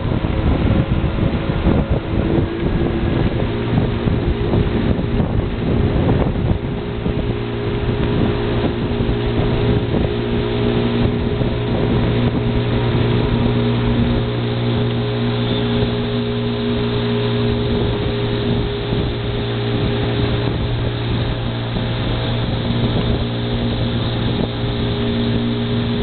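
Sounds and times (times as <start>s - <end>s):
motorboat engine running: 0.0s - 26.0s
wind buffeting microphone: 0.0s - 26.0s.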